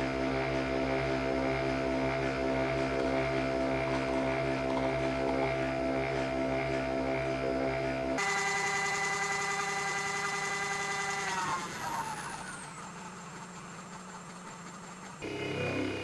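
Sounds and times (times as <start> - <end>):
coffee machine motor whine: 0.0 - 16.0.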